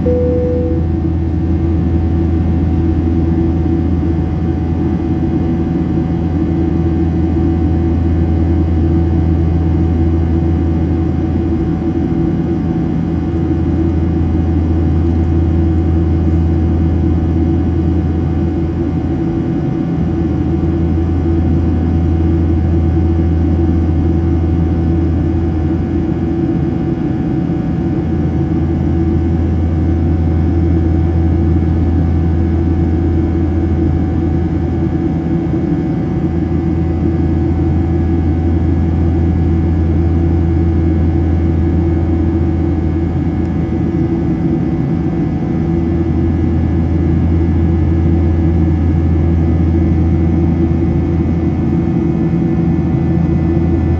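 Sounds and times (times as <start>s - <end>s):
jet engine drone in cabin: 0.0s - 53.9s.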